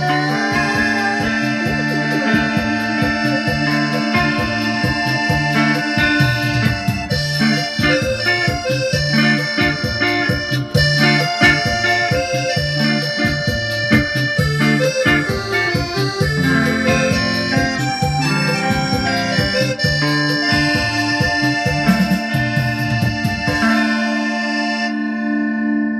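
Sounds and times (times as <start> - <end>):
steady drum beat: 0.0 - 24.0
accordion-like keyboard lead: 0.0 - 25.9
electric guitar: 0.0 - 25.9
low bass line: 0.0 - 25.9.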